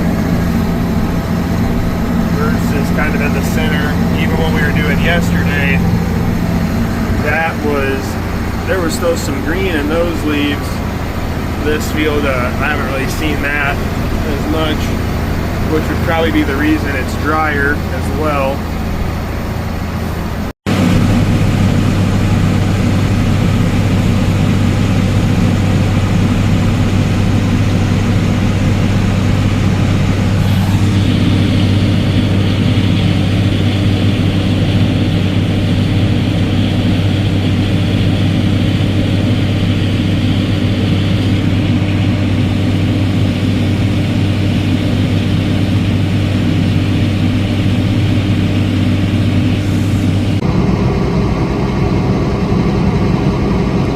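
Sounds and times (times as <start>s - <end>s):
diesel engine droning: 0.0s - 53.9s
hissing whine: 0.0s - 53.9s.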